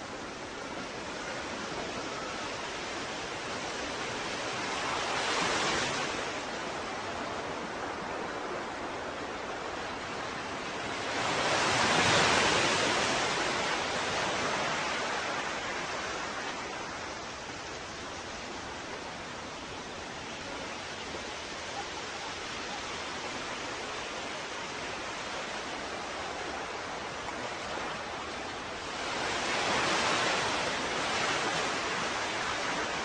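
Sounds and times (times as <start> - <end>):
ocean waves breaking: 0.0 - 33.0.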